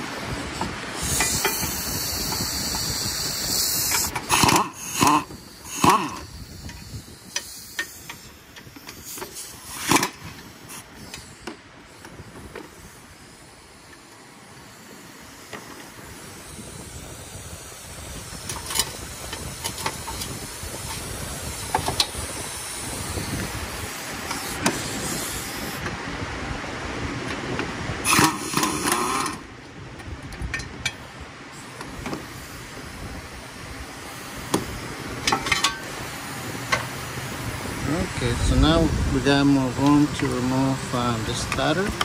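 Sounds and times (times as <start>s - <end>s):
power wrench running: 0.0s - 25.9s, 28.0s - 29.5s, 31.6s - 42.0s
steady hiss: 0.0s - 29.9s, 30.5s - 42.0s.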